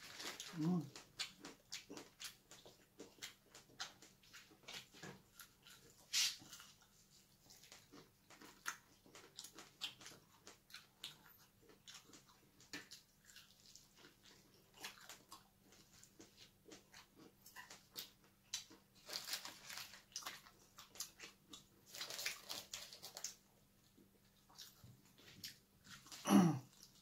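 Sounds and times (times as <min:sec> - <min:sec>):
chewing crispy fried chicken: 0:00.0 - 0:27.0.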